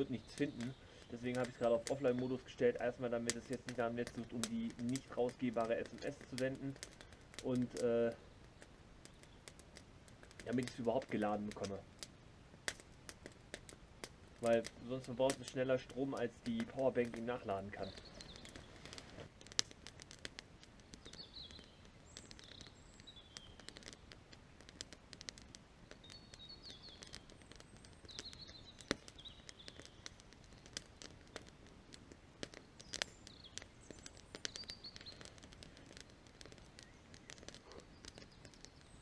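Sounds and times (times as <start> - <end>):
campfire crackling and popping: 0.0 - 39.0
small birds chirping: 0.0 - 39.0.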